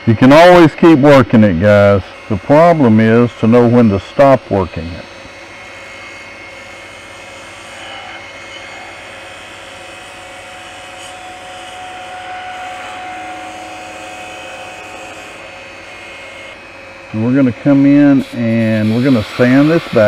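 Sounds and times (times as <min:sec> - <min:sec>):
wood lathe motor hum: 0:00.0 - 0:20.0.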